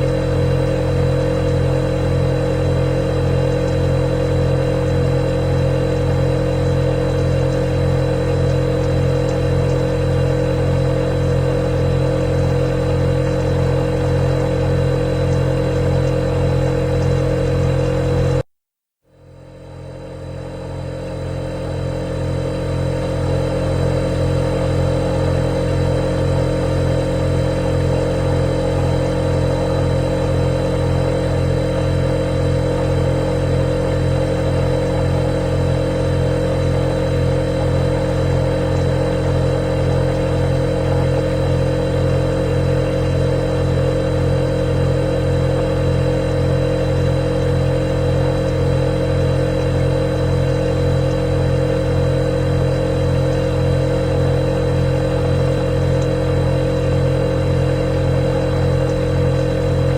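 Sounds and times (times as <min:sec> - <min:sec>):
refrigerator humming: 0:00.0 - 0:18.5, 0:19.1 - 0:59.9.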